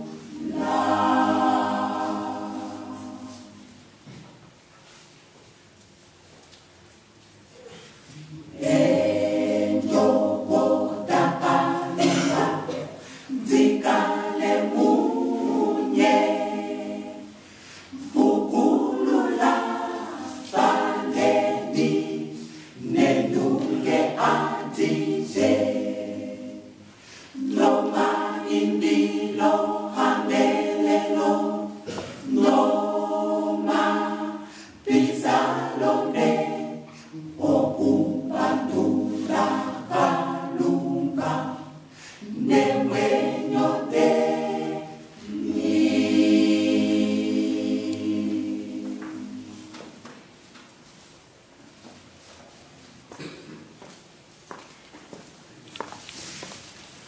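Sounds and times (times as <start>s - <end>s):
mixed choir singing a cappella: 0.0s - 4.1s, 7.6s - 50.0s.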